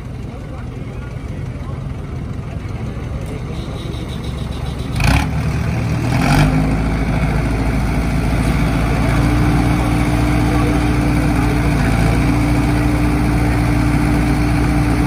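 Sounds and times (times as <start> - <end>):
diesel tractor engines running hard: 0.0 - 15.0.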